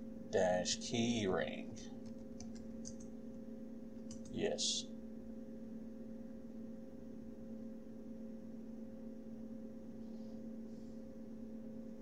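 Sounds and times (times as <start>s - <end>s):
two-tone electrical hum: 0.0s - 12.0s.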